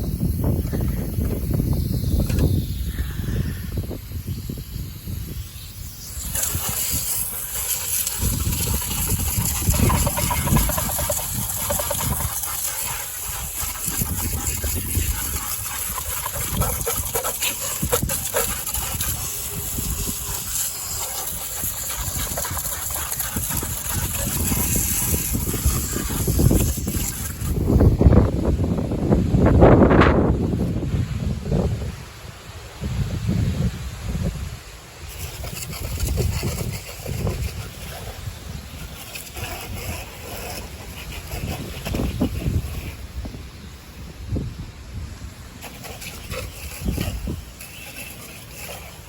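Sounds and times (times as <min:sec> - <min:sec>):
water spraying from hose: 0:00.0 - 0:28.2, 0:34.2 - 0:49.0
wind on microphone: 0:00.0 - 0:49.0.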